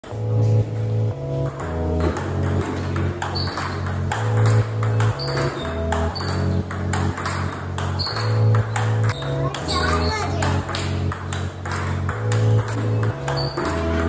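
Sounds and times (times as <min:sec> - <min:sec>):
background music with bass line: 0:00.0 - 0:14.0.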